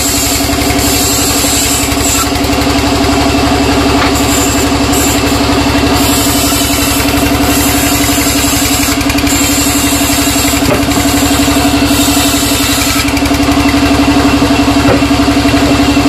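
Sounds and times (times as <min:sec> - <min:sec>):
sawmill saw droning: 0:00.0 - 0:16.0.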